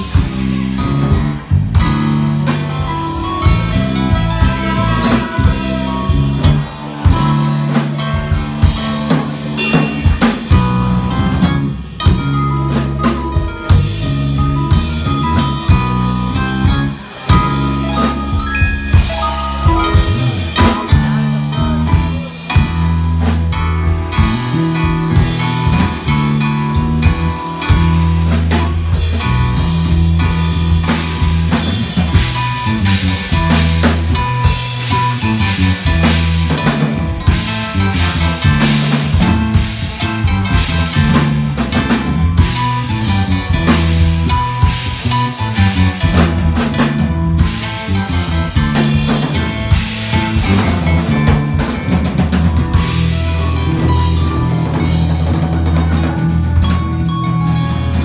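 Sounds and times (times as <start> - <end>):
trombone: 0.0 - 18.4, 19.0 - 56.1
drum kit: 0.0 - 58.0
electric bass: 0.0 - 58.0
keyboards: 0.0 - 58.0.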